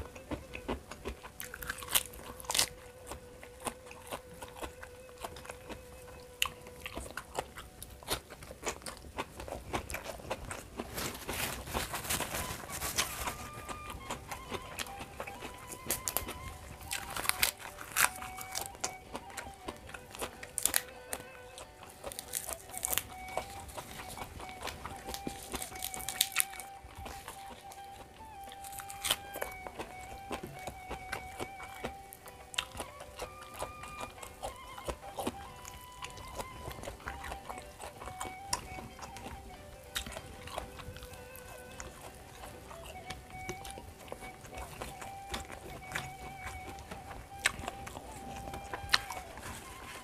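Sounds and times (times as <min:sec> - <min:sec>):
faint background music: 0:00.0 - 0:50.0
person crunching crisp food: 0:00.0 - 0:50.0.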